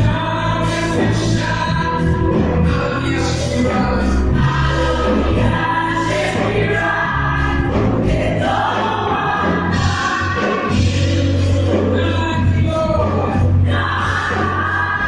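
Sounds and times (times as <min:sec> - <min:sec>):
band with strong bass line: 0:00.0 - 0:15.0
choir singing: 0:00.0 - 0:15.0.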